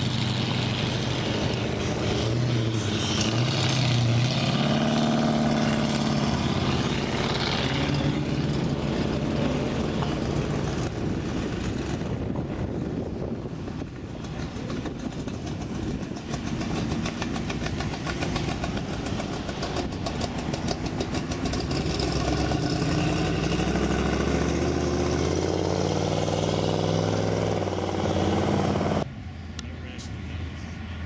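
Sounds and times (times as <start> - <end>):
cars driving slowly past: 0.0 - 31.0.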